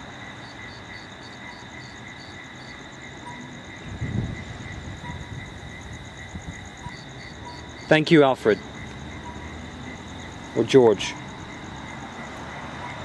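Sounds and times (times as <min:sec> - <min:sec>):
background hiss: 0:00.0 - 0:13.0
crickets chirping: 0:00.0 - 0:13.0.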